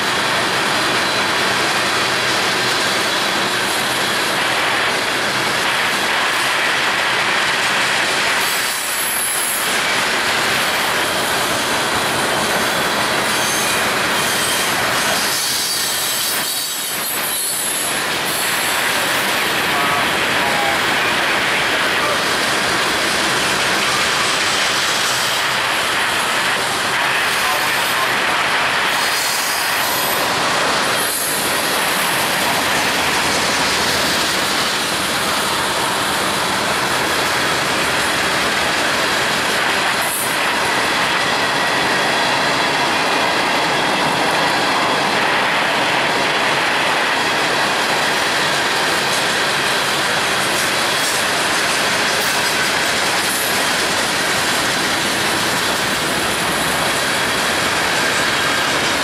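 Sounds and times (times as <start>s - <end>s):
train wheels rushing on rail: 0.0s - 59.0s.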